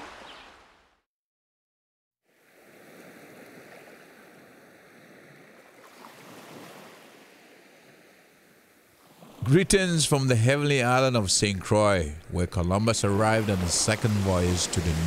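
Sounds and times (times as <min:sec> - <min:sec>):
gentle surf on a beach: 0:00.0 - 0:00.8, 0:02.2 - 0:15.0.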